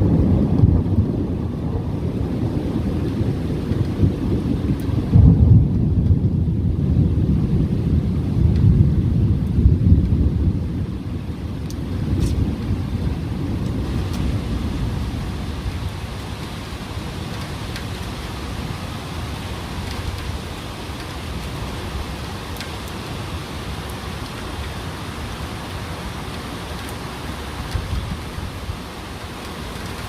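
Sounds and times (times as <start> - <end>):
low thunder rumble: 0.0 - 27.0
torrential rain: 0.0 - 30.0.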